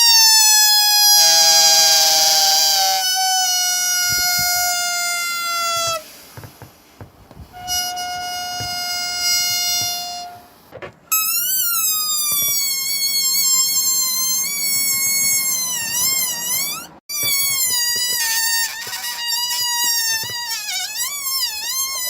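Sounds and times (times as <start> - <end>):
balloon air squealing: 0.0 - 22.0.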